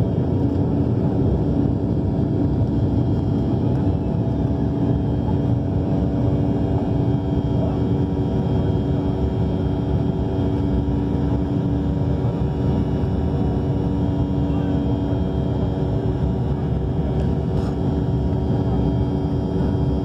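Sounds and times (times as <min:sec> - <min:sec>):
airliner engines droning: 0:00.0 - 0:20.0.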